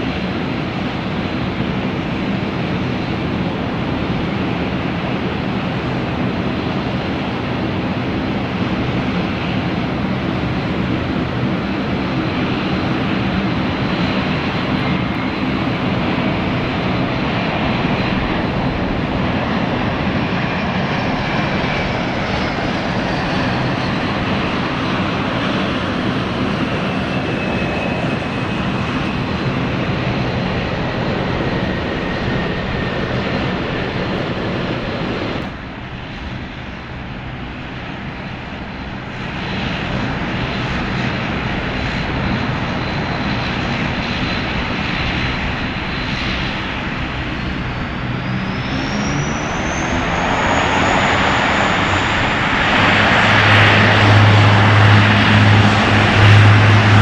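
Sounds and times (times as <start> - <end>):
airliner engines running: 0.0 - 57.0.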